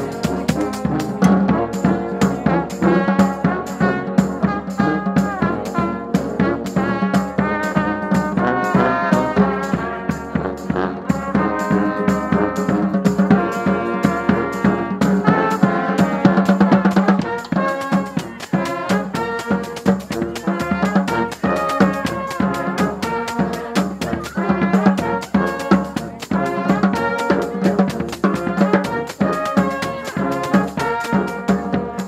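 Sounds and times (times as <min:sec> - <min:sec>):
brass horns: 0:00.0 - 0:32.0
marching drums beating: 0:00.0 - 0:32.0
saxophone: 0:00.0 - 0:32.0.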